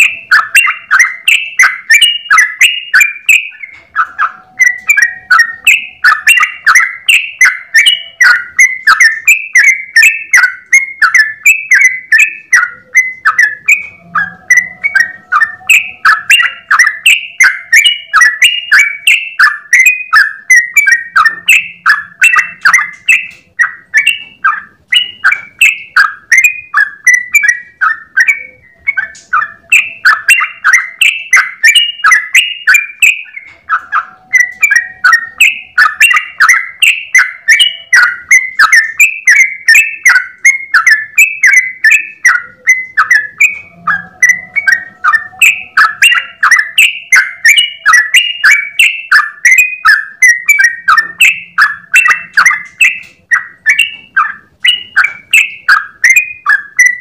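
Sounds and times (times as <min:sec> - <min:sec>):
bird singing bubbly notes: 0:00.0 - 0:57.0.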